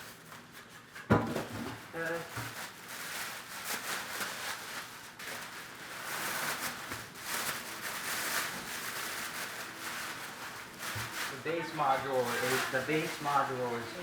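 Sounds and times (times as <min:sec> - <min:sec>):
packaging rustling and scraping: 0:00.0 - 0:14.0.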